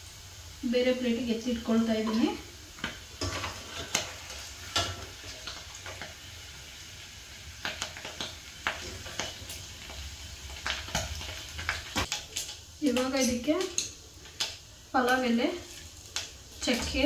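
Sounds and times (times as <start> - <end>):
oil sizzling: 0.0 - 17.0.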